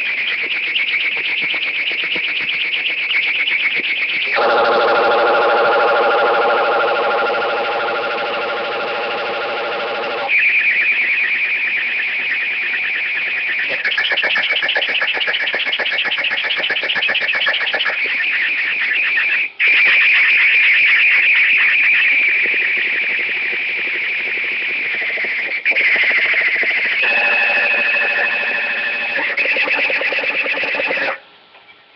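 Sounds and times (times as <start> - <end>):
steady held tone: 0.0 - 31.2.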